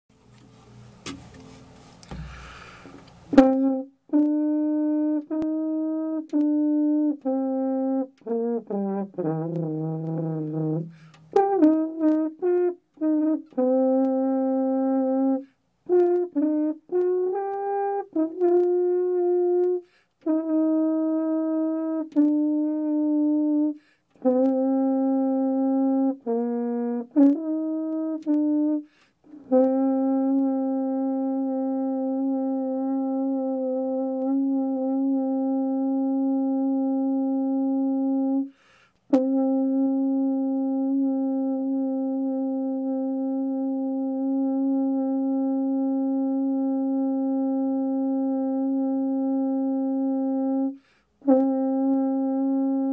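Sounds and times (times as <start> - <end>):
french horn playing: 0.2 - 52.9.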